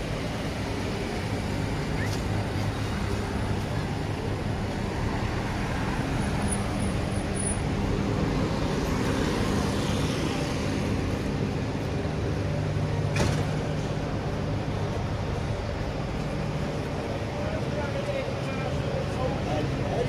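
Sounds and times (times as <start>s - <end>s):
engine running close by: 0.0s - 20.0s
street traffic: 0.0s - 20.0s.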